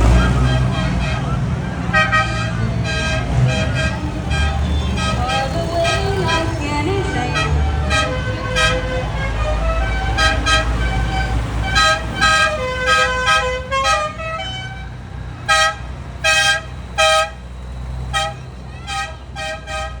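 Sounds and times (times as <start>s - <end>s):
tractor engines running: 0.0s - 20.0s
tractor horns tooting: 0.0s - 20.0s.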